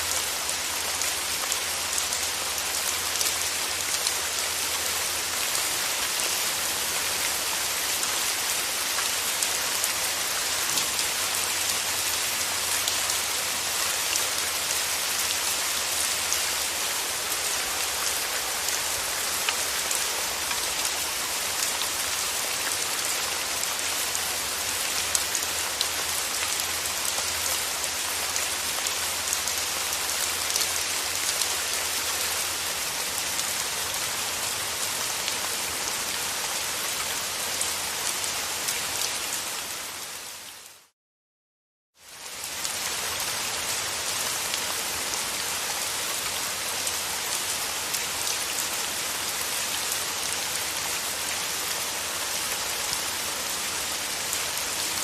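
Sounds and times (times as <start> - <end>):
steady rain falling: 0.0 - 40.9, 42.0 - 55.0.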